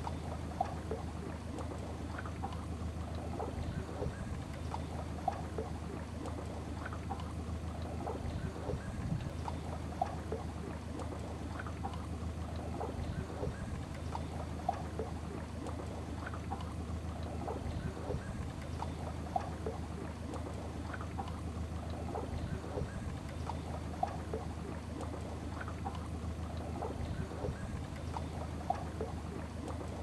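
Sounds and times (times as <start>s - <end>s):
steady low hum: 0.0s - 30.0s
water lapping against boat hull: 0.0s - 30.0s.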